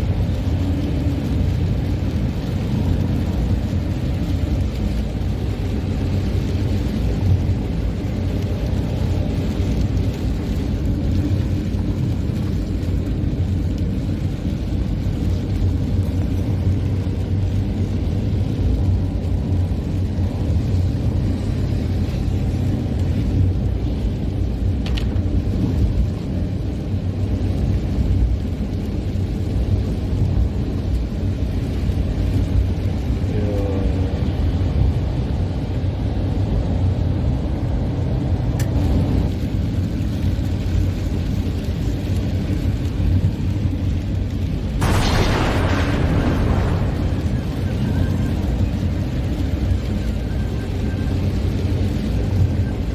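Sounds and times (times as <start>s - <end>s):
car driving road noise: 0.0s - 52.9s.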